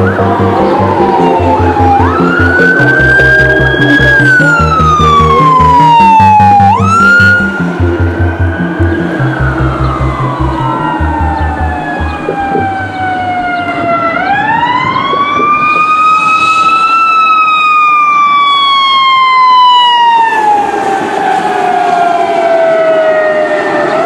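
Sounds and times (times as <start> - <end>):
fire engine siren wailing: 0.0 - 24.0.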